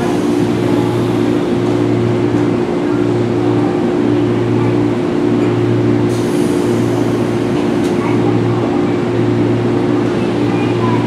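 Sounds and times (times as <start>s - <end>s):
train equipment pulsing hum: 0.0s - 11.0s.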